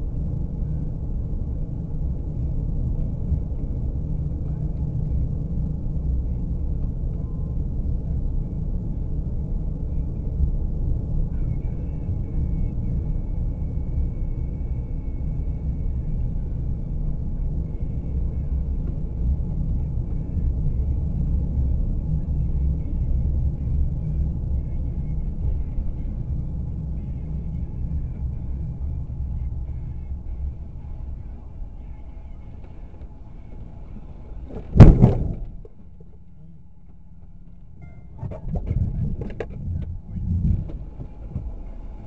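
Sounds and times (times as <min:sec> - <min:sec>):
car road and engine rumble: 0:00.0 - 0:42.0.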